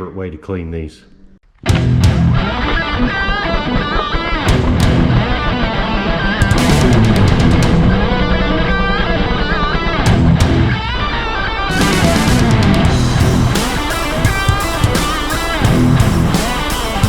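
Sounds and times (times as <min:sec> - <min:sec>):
electric guitar rock music: 0:01.6 - 0:17.0.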